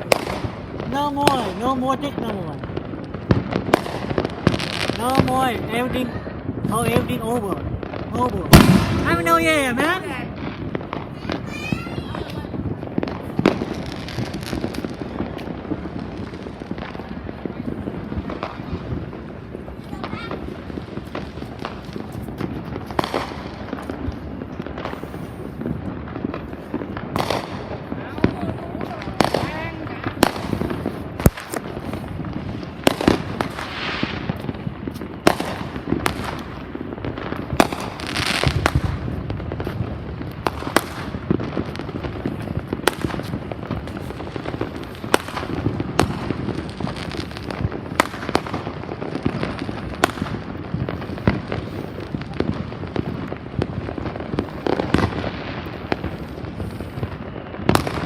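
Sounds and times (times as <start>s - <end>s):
continuous fireworks crackle: 0.0s - 58.0s
fireworks sharp bangs: 0.0s - 58.0s.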